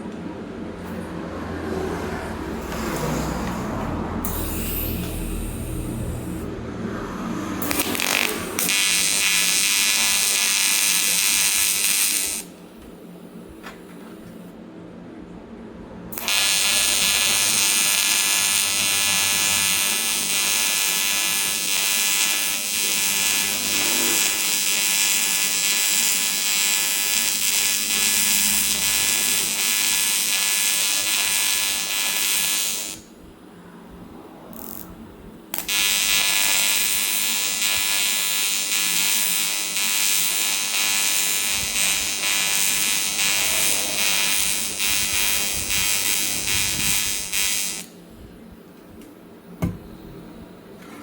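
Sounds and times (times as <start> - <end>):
welding arc buzzing: 1.6 - 6.6, 7.2 - 14.5, 16.1 - 33.1, 34.5 - 48.0.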